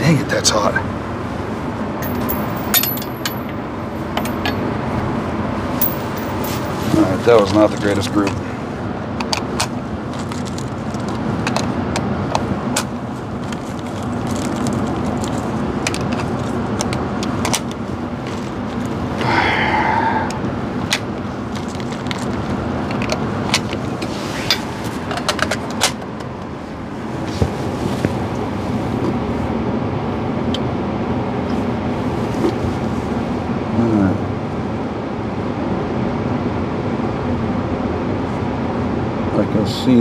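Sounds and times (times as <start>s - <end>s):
ventilation hum: 0.0s - 40.0s.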